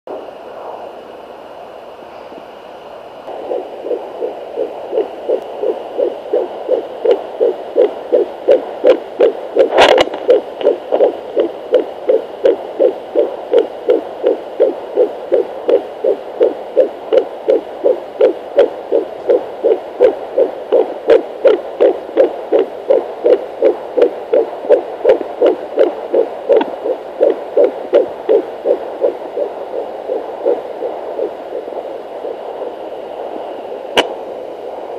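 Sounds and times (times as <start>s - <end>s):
faint steady hum: 0.1s - 34.9s
fast fetal heartbeat pulsing: 3.3s - 34.9s
probe crackle: 3.3s - 34.9s.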